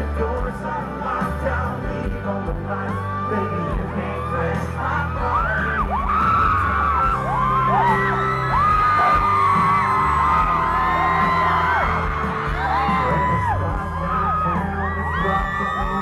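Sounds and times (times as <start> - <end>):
country band playing loud: 0.0 - 16.0
fans screaming and whooping: 1.6 - 16.0.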